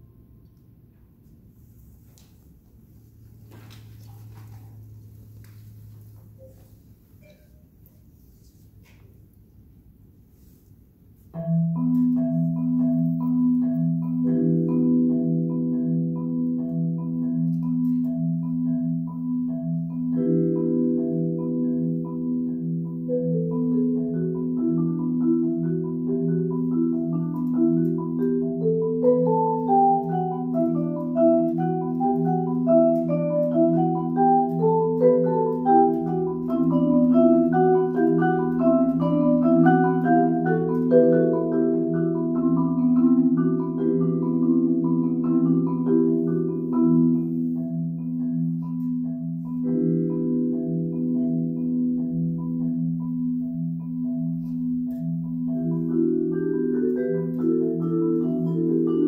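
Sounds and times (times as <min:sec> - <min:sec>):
marimba and vibraphone duo: 0:00.0 - 0:10.6, 0:11.2 - 0:59.0.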